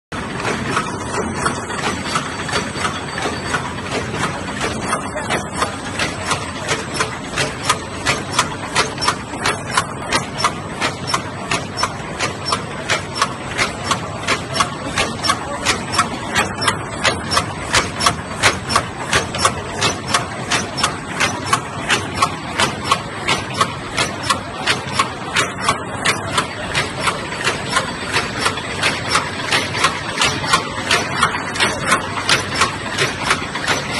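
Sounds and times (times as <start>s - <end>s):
machine clacking: 0.1s - 33.9s
mechanical hum: 0.1s - 33.9s.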